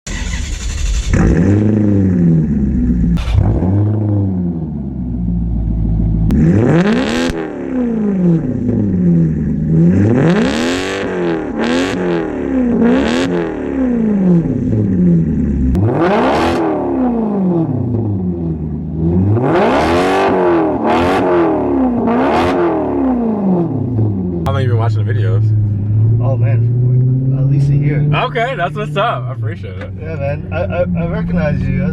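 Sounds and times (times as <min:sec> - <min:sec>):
car engine revving: 0:00.1 - 0:31.9.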